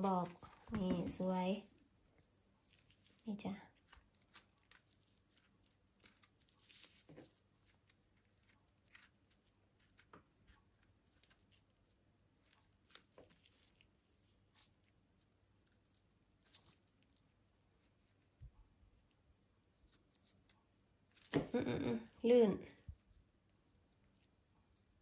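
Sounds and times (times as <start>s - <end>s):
fingers peeling mushroom skin: 0.0s - 25.0s.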